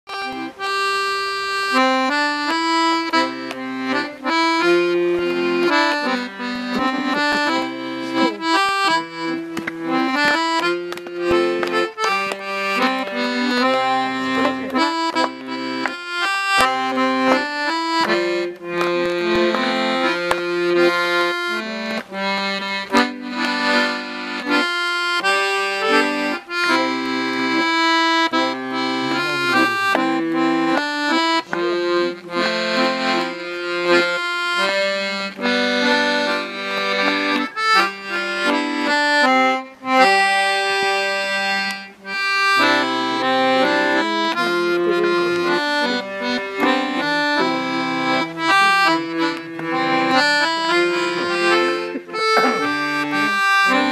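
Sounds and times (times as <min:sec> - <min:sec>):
accordion playing a tune: 0:00.1 - 0:53.9.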